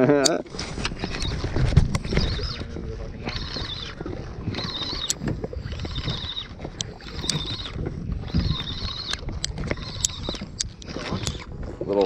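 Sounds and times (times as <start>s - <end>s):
steady low rumble: 0.0s - 12.0s
sharp clicks: 0.2s - 12.0s
reel gears whirring: 0.4s - 12.0s.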